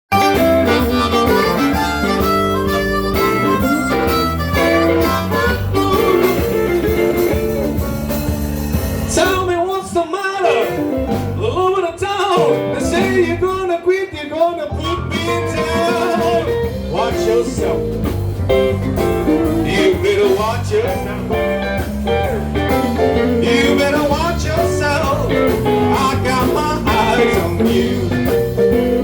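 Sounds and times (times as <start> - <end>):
blues harmonica: 0.1 - 9.3, 14.9 - 29.0
blues band playing: 0.1 - 29.0.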